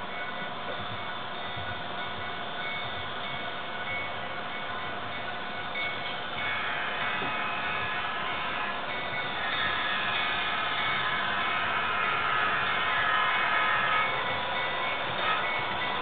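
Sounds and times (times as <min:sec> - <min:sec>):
faint ringing tones: 0:00.0 - 0:16.0
model train whirring: 0:00.0 - 0:16.0.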